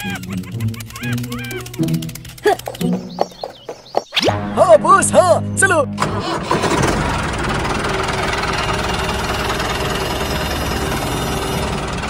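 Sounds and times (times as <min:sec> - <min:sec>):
tractor engine knocking: 0:00.0 - 0:04.1, 0:06.0 - 0:12.0.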